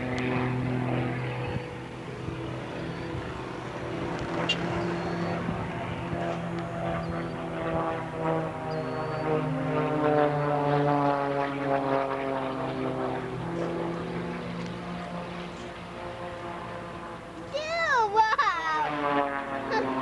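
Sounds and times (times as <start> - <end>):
propeller airplane droning past: 0.0 - 20.0.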